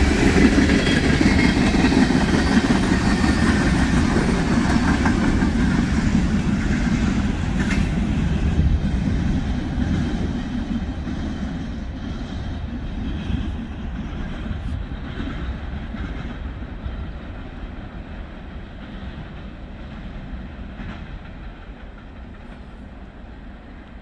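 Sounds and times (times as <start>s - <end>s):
freight train rumbling on rails: 0.0s - 24.0s.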